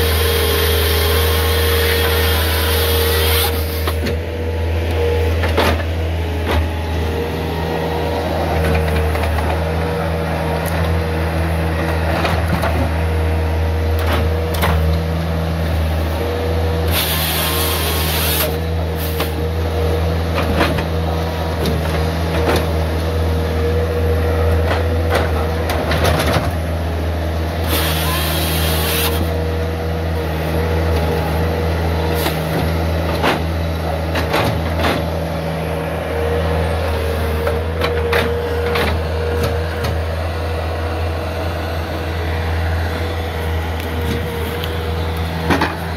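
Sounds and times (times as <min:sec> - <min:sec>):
hydraulic whine: 0:00.0 - 0:20.8, 0:26.1 - 0:45.9
diesel engine running: 0:00.0 - 0:45.9.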